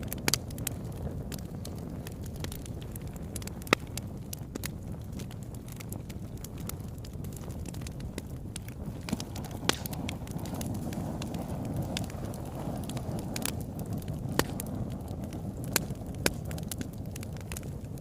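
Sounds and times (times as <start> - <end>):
fire crackling and popping: 0.0 - 18.0
flames rushing: 0.0 - 18.0.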